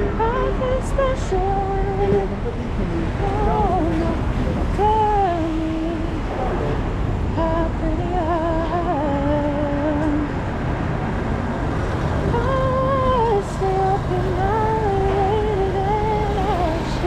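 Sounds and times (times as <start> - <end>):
woman singing slow melody: 0.0 - 6.4, 7.3 - 10.6, 12.3 - 17.0
city traffic rumble: 0.0 - 17.0.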